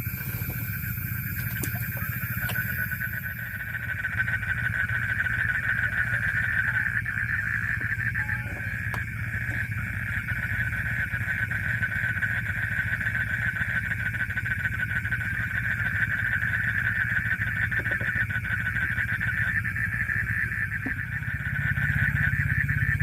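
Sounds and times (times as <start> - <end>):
insect chorus trilling: 0.0 - 23.0
low steady drone: 0.0 - 23.0.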